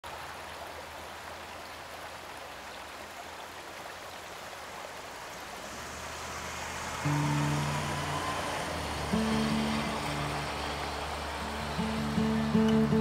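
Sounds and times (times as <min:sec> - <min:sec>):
river rushing over rapids: 0:00.1 - 0:13.0.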